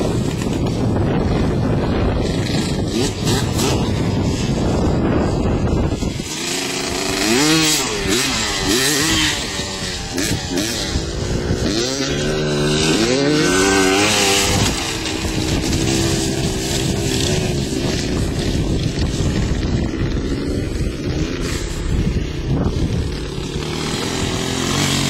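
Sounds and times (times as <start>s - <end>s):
dirt bike engine revving: 0.0s - 25.0s
wind on microphone: 0.0s - 25.0s.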